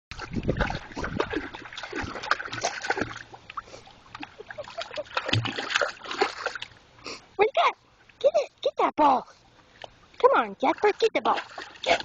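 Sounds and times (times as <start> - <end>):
water splashing and sloshing: 0.1 - 12.0.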